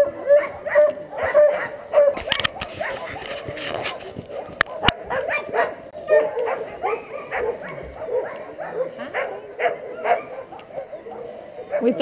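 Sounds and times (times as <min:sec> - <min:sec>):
sled dogs barking and yipping: 0:00.0 - 0:12.0.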